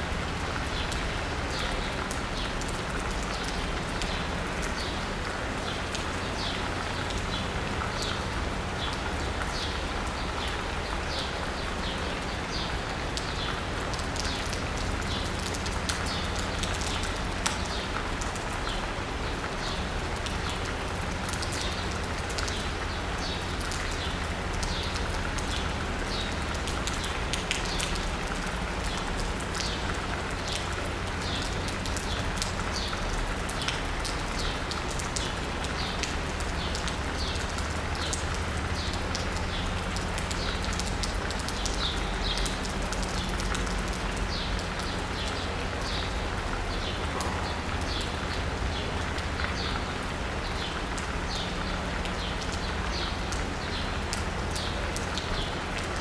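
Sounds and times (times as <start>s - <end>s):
close raindrops ticking: 0.0s - 56.0s
rain falling on asphalt and rooftops: 0.0s - 56.0s.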